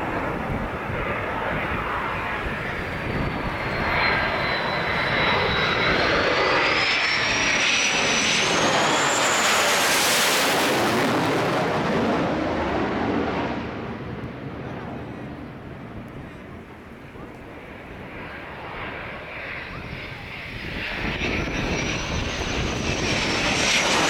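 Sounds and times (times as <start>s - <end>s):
high jet whine: 0.0s - 24.0s
jet engines rushing overhead: 0.0s - 24.0s.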